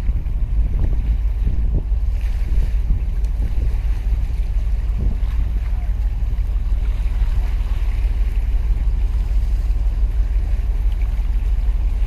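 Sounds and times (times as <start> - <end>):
faint harbour water: 0.0 - 12.0
wind buffeting microphone: 0.0 - 12.0.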